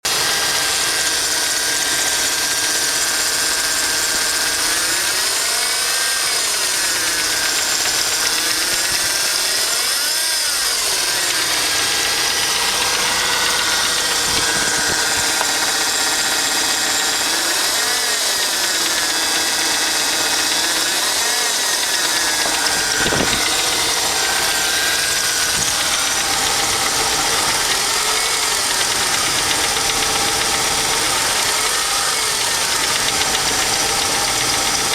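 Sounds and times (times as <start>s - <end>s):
engine knock: 0.0s - 6.0s, 6.7s - 9.4s, 10.7s - 34.9s.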